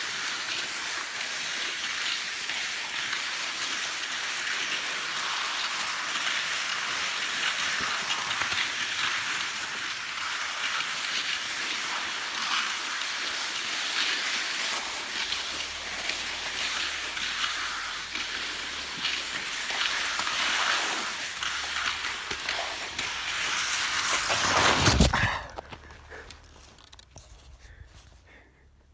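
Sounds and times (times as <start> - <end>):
skis scraping over snow: 0.0 - 28.9.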